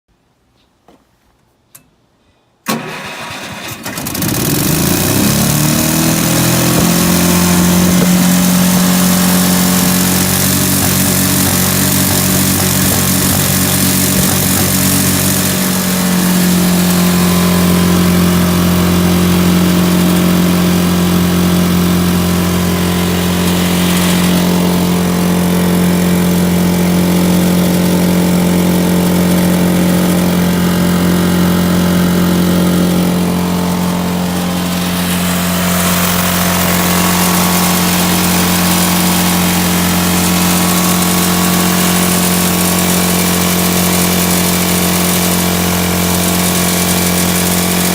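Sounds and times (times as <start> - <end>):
welder engine running: 2.7 - 47.9.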